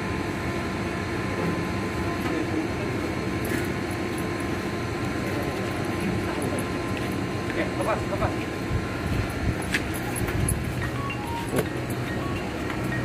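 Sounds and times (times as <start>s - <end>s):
constant hum: 0.0s - 13.0s
machinery droning: 0.0s - 13.0s.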